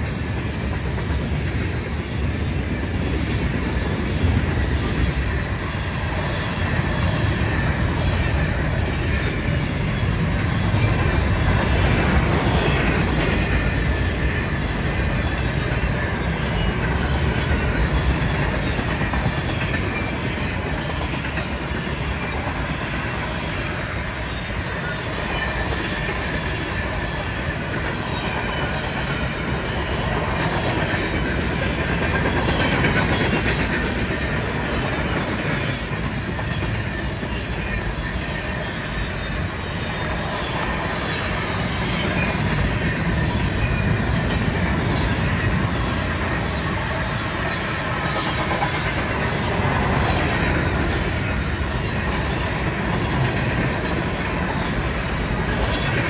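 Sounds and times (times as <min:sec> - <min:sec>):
steel train wheels rumbling on rail: 0:00.0 - 0:56.0.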